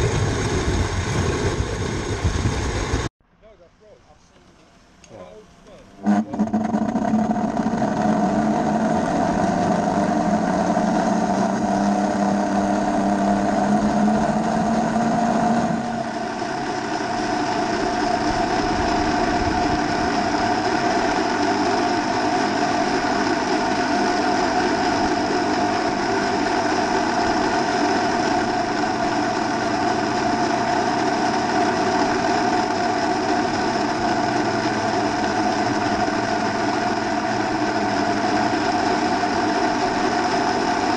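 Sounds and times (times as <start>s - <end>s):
high whine: 5.6s - 40.9s.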